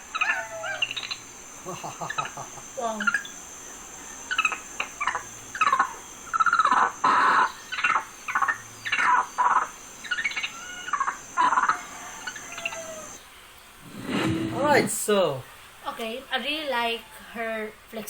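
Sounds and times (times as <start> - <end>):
birds chirping: 0.0 - 17.3
insects droning: 0.0 - 18.0.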